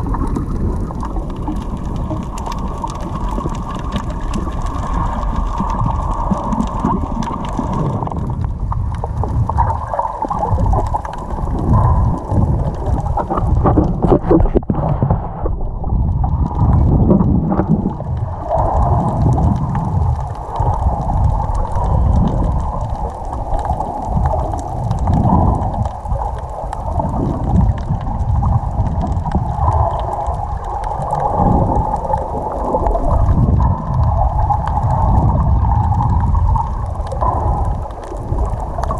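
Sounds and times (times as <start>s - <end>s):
muffled underwater water rush: 0.0s - 38.9s.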